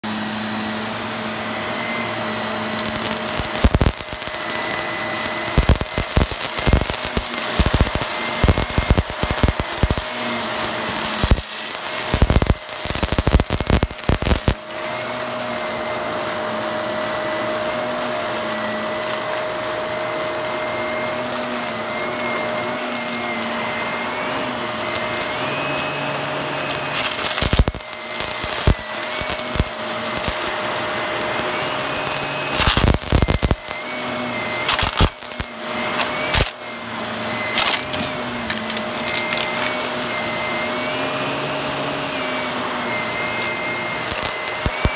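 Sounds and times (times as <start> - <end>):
vacuum cleaner whining: 0.0 - 44.9
debris crunching in vacuum: 1.5 - 40.3, 43.3 - 44.9.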